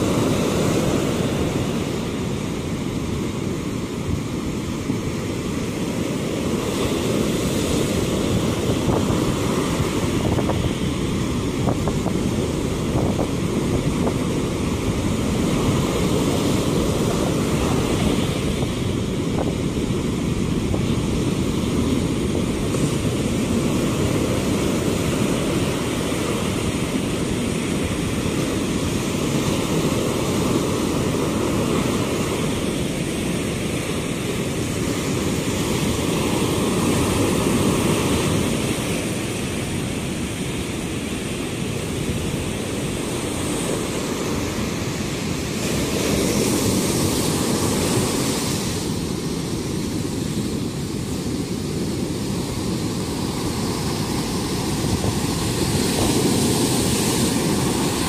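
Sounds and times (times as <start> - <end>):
surf breaking on beach: 0.0 - 58.0.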